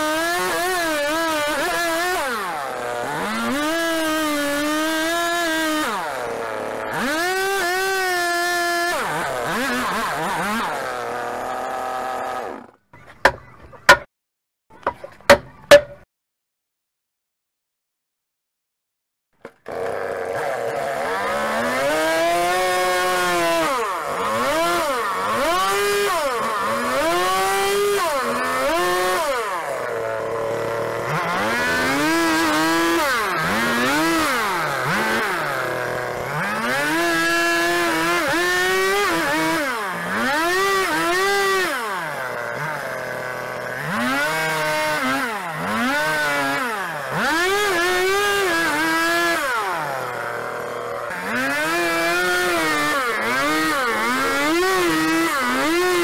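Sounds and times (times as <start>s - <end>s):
chainsaw cutting log: 0.0s - 14.1s, 19.4s - 56.0s.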